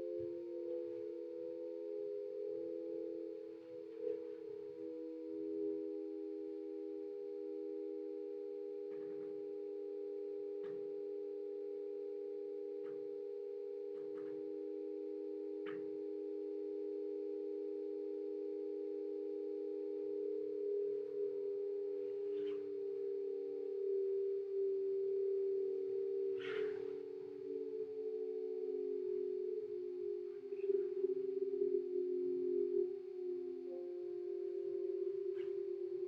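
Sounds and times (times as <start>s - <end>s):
drone of steady pure tones: 0.0s - 36.0s.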